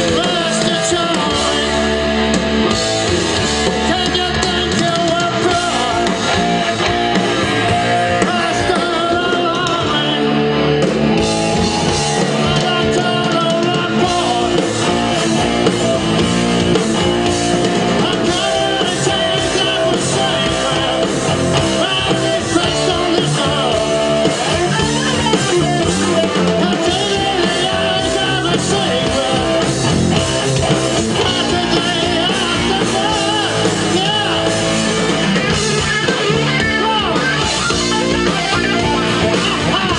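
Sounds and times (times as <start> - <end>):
person singing: 0.0 - 2.2, 3.6 - 10.8, 11.5 - 39.9
guitar: 0.0 - 39.9
live rock band playing: 0.0 - 39.9.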